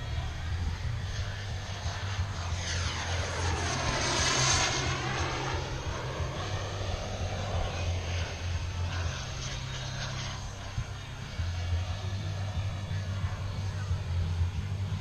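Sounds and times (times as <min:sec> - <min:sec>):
model airplane engine fly-by: 0:00.0 - 0:15.0.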